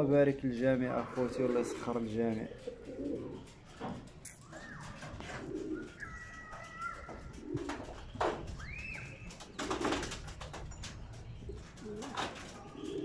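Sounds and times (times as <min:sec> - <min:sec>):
pigeons cooing: 0:00.9 - 0:10.7, 0:11.4 - 0:13.0.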